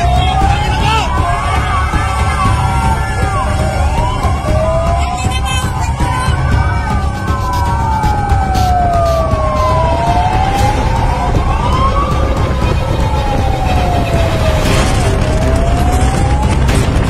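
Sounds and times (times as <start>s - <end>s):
fire truck sirens wailing: 0.0s - 17.0s.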